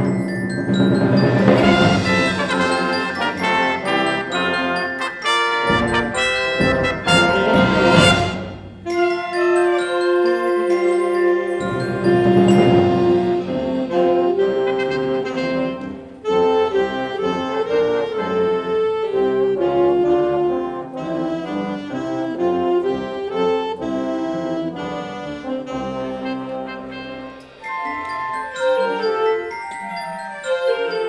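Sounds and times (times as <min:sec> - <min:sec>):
concert band playing: 0:00.0 - 0:30.8.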